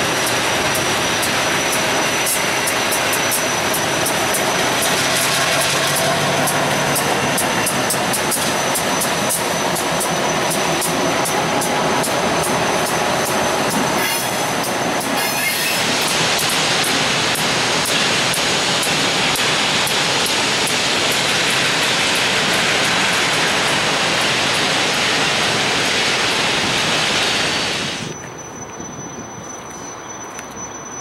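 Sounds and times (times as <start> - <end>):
freight train rolling past: 0.0 - 31.0.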